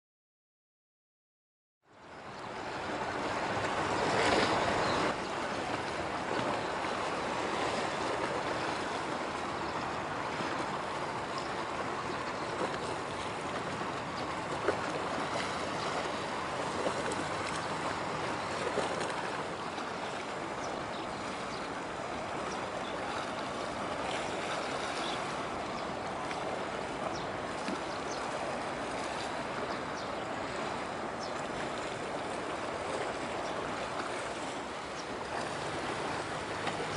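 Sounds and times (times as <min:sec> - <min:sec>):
water rushing: 0:02.0 - 0:36.9.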